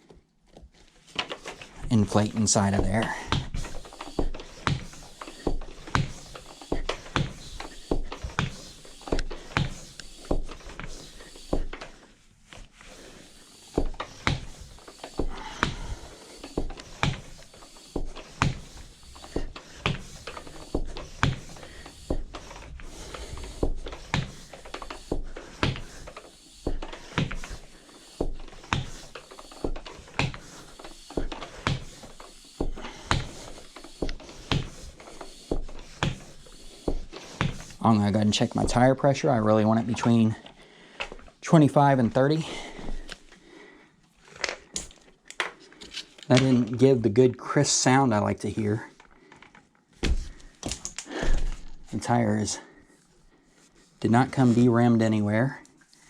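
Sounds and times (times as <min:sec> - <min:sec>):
hand tire pump strokes: 0:00.5 - 0:56.0.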